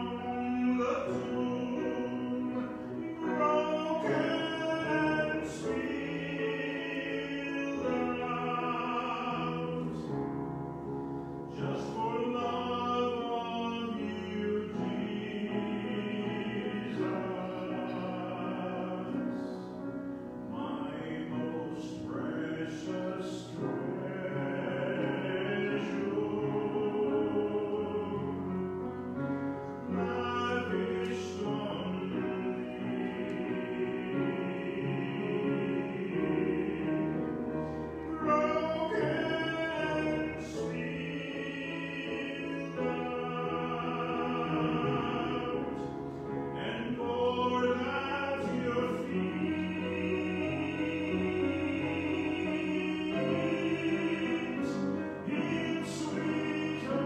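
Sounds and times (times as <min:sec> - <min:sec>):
man singing into microphone: 0:00.0 - 0:10.4, 0:11.4 - 0:19.8, 0:20.5 - 0:28.6, 0:29.7 - 0:57.0.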